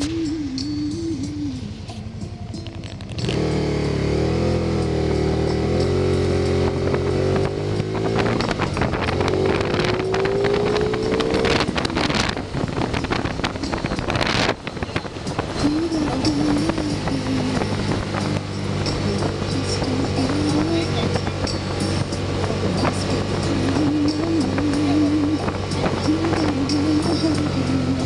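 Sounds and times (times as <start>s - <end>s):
wind and road noise: 0.0s - 28.0s
motorcycle engine accelerating: 2.7s - 28.0s.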